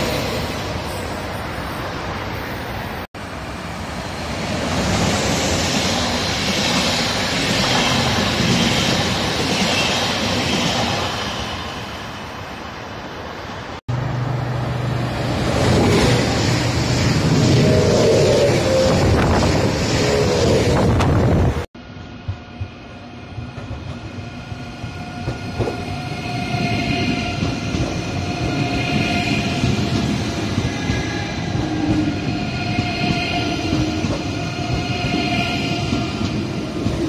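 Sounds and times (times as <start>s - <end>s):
electric train low hum: 0.0s - 37.0s
trains passing at speed: 0.0s - 37.0s.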